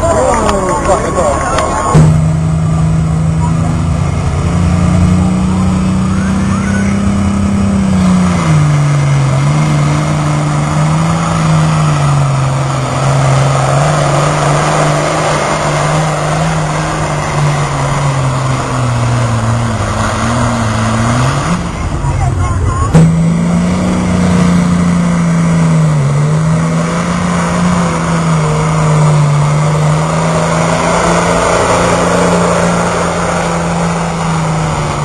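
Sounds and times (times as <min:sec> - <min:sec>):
truck engine revving under load: 0:00.0 - 0:35.0.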